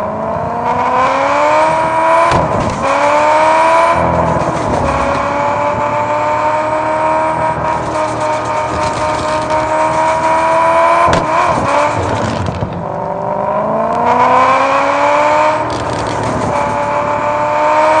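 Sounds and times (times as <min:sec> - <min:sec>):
car engine accelerating through gears: 0:00.0 - 0:18.0.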